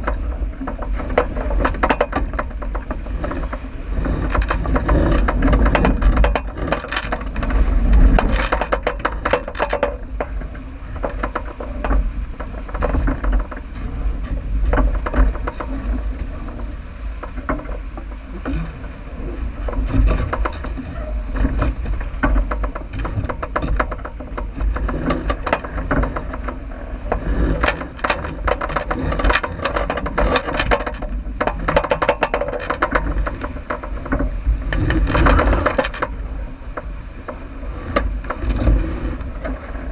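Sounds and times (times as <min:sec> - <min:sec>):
boat gear clicks and rattles: 0:00.0 - 0:39.9
water rushing along hull: 0:00.0 - 0:39.9
wind buffeting microphone: 0:00.0 - 0:39.9.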